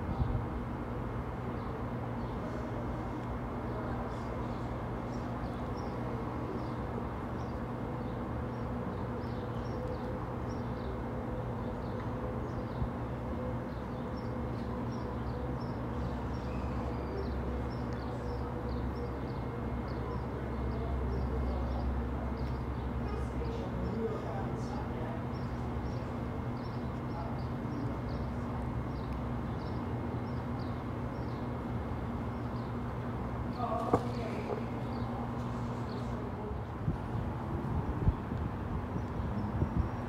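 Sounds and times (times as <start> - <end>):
small birds chirping: 1.5 - 37.4.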